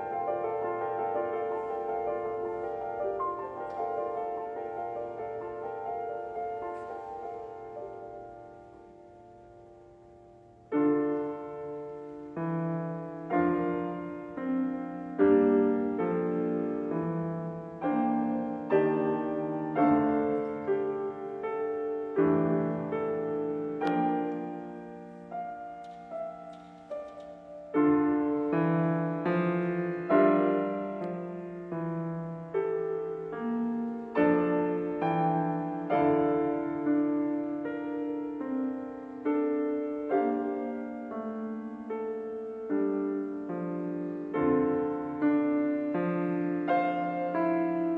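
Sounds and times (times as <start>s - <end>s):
piano chords: 0.0s - 47.9s.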